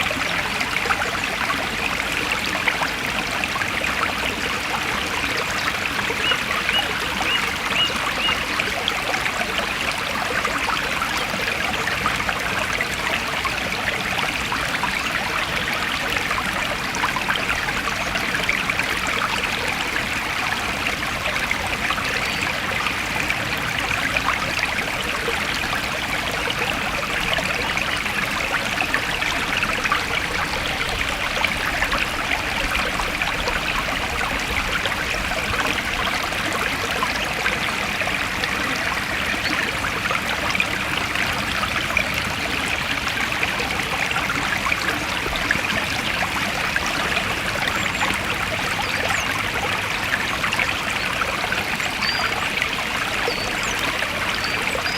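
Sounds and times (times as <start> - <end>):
forest stream flowing: 0.0 - 54.9.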